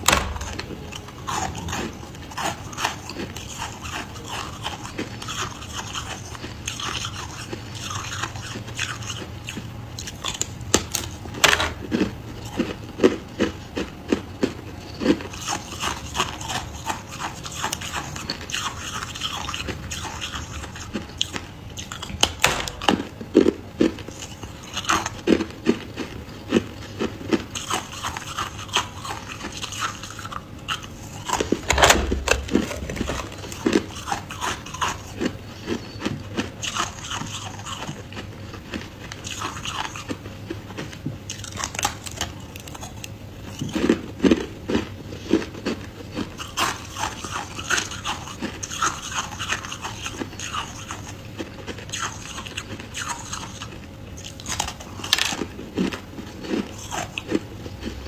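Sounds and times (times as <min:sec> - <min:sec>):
crunching frost between teeth: 0:00.0 - 0:58.0.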